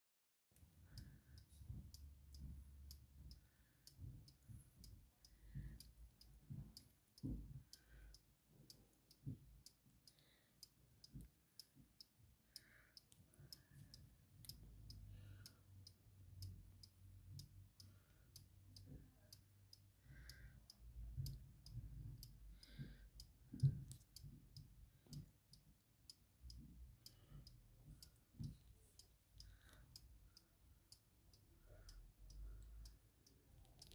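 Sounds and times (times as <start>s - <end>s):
wall clock ticking: 0.6s - 33.9s.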